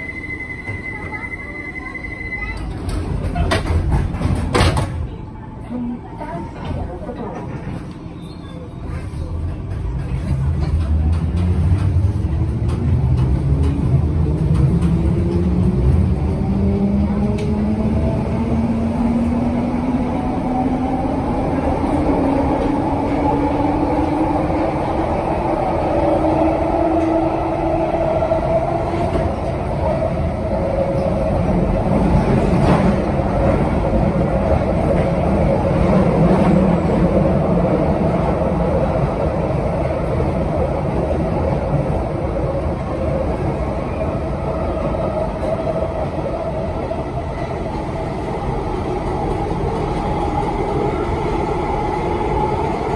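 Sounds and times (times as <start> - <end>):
train running rumble: 8.9 - 52.9.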